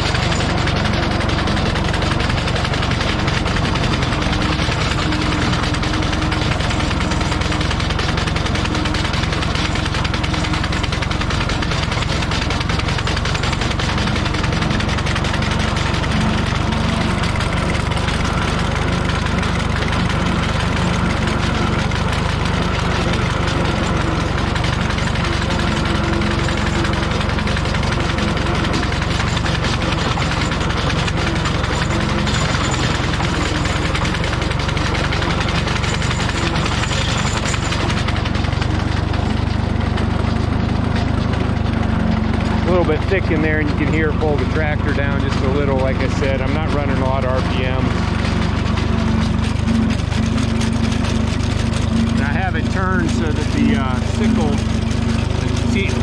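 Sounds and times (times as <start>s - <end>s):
mower mechanical clatter: 0.0s - 56.0s
tractor engine running at low revs: 0.0s - 56.0s.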